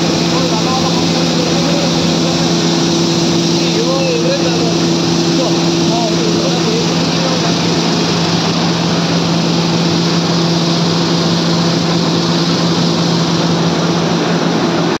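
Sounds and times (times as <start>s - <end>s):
low hum: 0.0s - 15.0s
machine mechanical rush: 0.0s - 15.0s.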